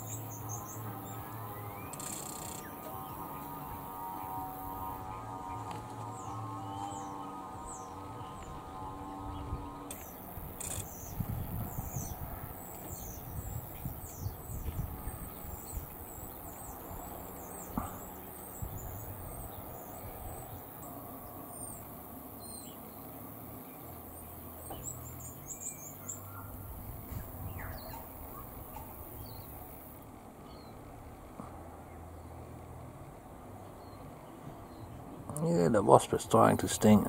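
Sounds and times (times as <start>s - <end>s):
small birds chirping: 0.0s - 30.8s.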